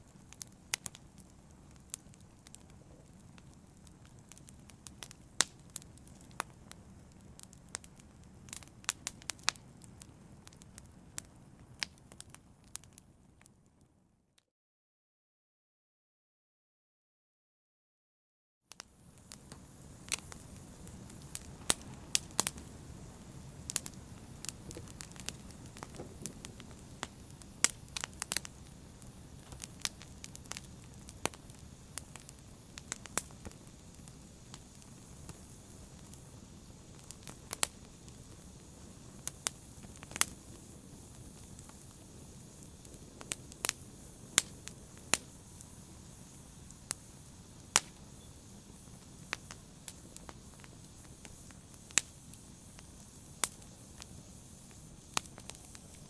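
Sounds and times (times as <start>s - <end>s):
wood fire crackling: 0.0s - 13.8s, 18.8s - 56.0s.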